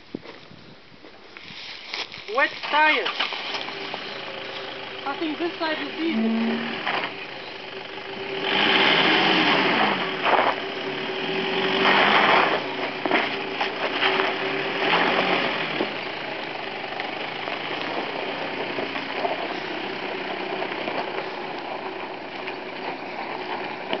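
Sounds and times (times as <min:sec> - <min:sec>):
truck engine idling: 0:02.8 - 0:24.0
pickup truck engine revving: 0:03.2 - 0:24.0.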